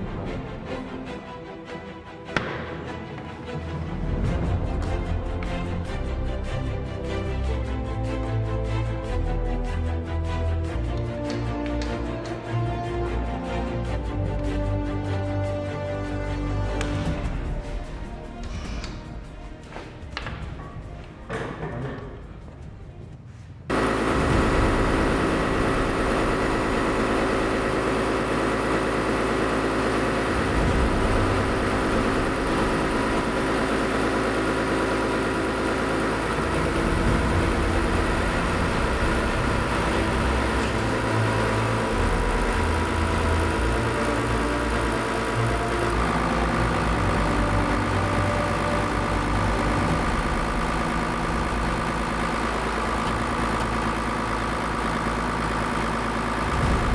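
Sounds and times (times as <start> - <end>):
machine motor running: 0.0 - 21.5, 23.7 - 56.9.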